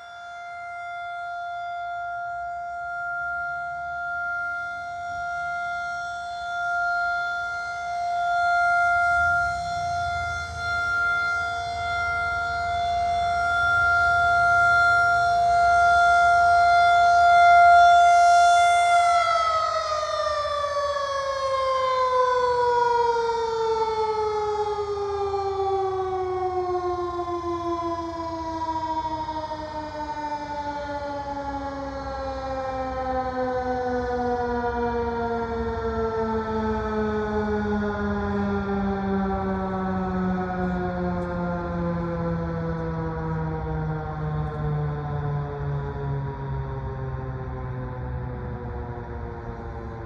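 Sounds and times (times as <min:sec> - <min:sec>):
siren winding down: 0:00.0 - 0:50.0
warning siren steady tone: 0:00.0 - 0:50.0.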